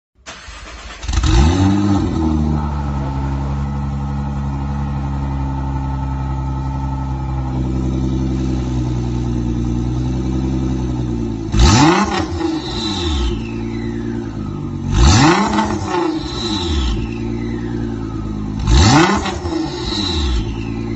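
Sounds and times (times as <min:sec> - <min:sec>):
car engine idling and revving: 0:00.2 - 0:20.9.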